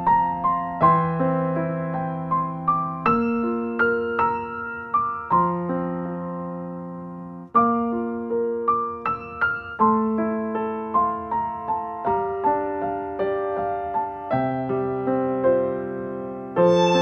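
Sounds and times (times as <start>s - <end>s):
electric piano music: 0.0s - 17.0s.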